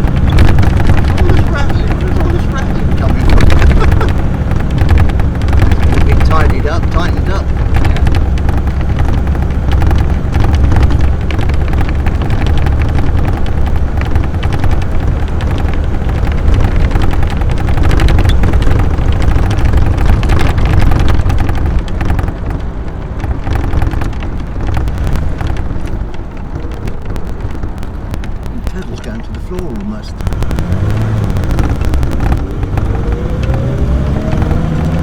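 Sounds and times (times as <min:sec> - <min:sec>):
bodywork rattling: 0:00.0 - 0:35.0
car engine low drone: 0:00.0 - 0:35.0.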